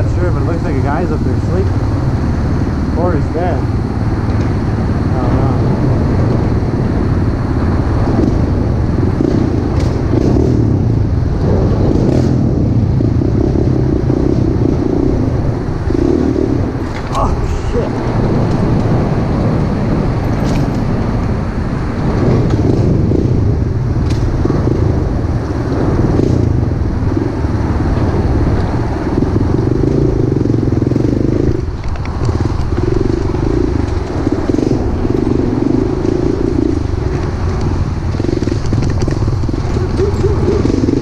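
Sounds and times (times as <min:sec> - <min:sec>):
pit bike engine revving: 0:00.0 - 0:41.0.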